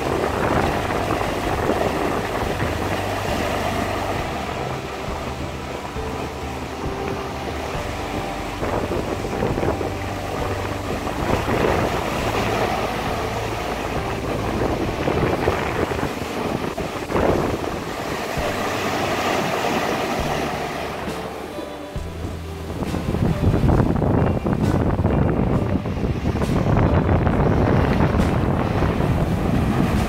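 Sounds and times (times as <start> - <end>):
churning wake and waves: 0.0 - 30.0
faint background music: 0.0 - 30.0
wind buffeting the microphone: 0.0 - 30.0.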